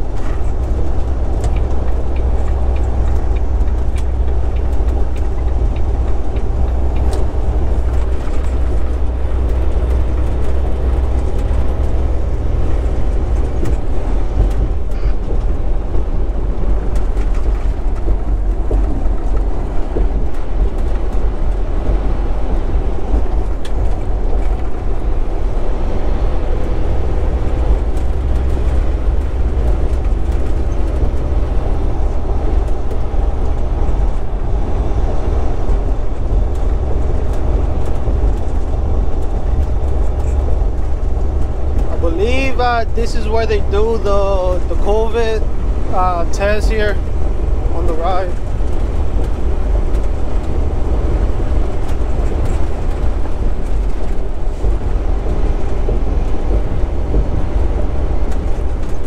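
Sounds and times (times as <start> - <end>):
truck engine drone in cab: 0.0 - 59.0.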